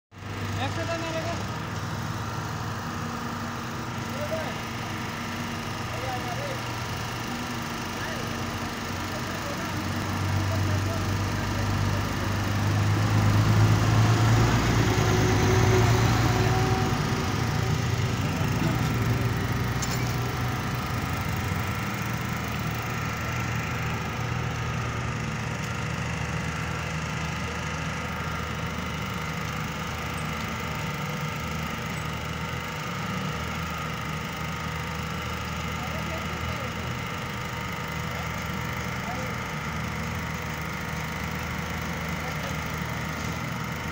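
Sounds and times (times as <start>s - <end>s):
engine idling: 0.1s - 43.9s.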